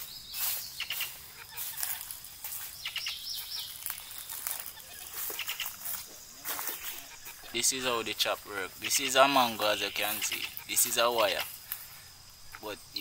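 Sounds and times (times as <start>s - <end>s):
birds chirping: 0.0s - 13.0s
steady high hiss: 0.0s - 13.0s.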